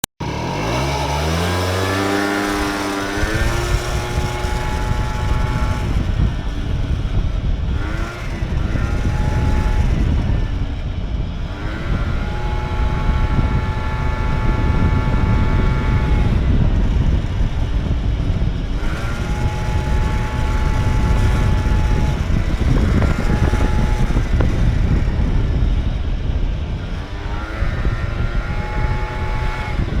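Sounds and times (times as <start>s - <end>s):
scooter crackling noise: 0.2s - 30.0s
scooter engine revving: 0.2s - 30.0s.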